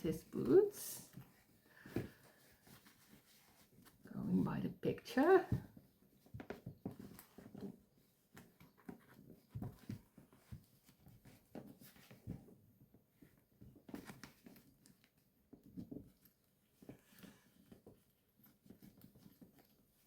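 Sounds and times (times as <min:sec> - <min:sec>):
soft rustles: 0:00.0 - 0:20.0.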